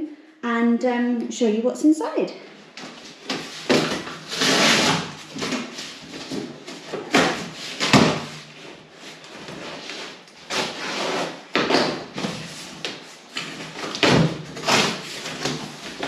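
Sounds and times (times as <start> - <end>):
cardboard rustling and scraping: 2.8 - 16.0.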